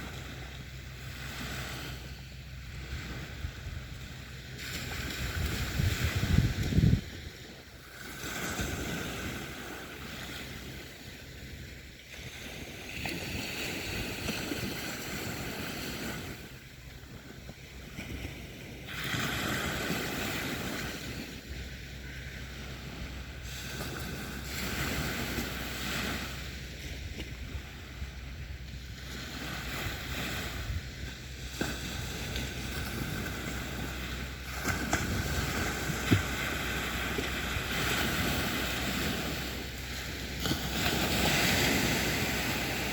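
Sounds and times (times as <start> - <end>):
sea waves breaking: 0.0 - 42.9
wind rumble on microphone: 0.0 - 42.9.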